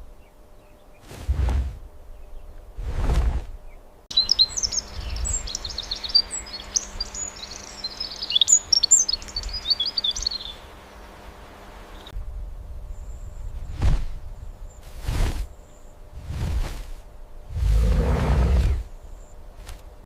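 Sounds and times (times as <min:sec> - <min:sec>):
songbird singing: 0:00.0 - 0:01.2, 0:01.8 - 0:02.8, 0:03.5 - 0:14.9, 0:15.5 - 0:16.1, 0:17.1 - 0:20.0
faint steady hum: 0:00.0 - 0:02.8, 0:03.6 - 0:20.0.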